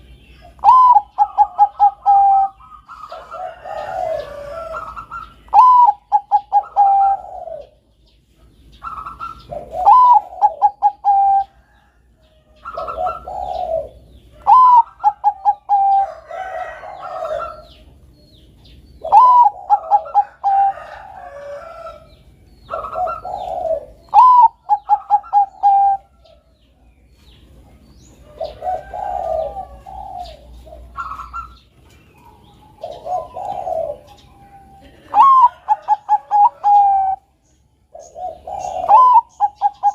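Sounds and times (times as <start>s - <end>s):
dove cooing: 0.0s - 8.0s, 8.6s - 18.1s, 19.0s - 26.6s, 27.6s - 39.9s.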